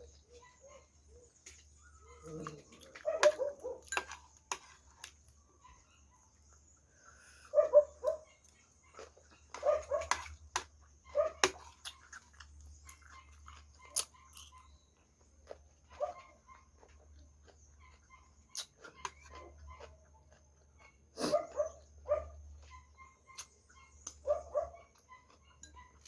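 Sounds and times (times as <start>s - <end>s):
chewing and lip-smacking: 1.2s - 5.4s, 6.3s - 26.0s.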